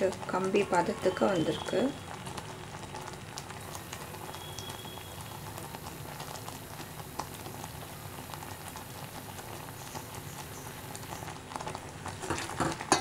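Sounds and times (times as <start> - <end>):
syrup boiling with small pops: 0.0 - 13.0.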